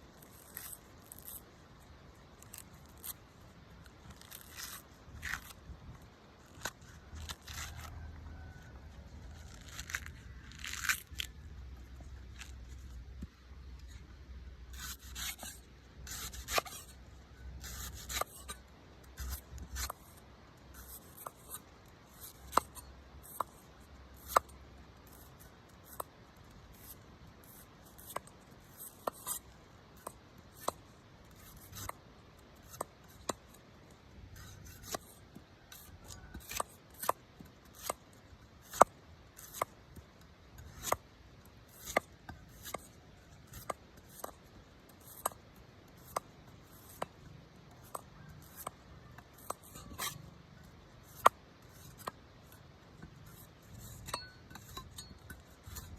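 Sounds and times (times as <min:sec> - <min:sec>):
knife scraping coconut husk: 0:00.1 - 0:32.0, 0:32.6 - 0:55.9.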